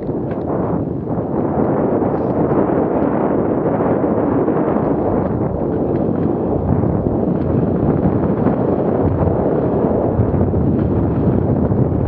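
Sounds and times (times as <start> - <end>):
tyres rumbling over dirt trail: 0.0 - 12.0
wind buffeting microphone: 0.0 - 12.0.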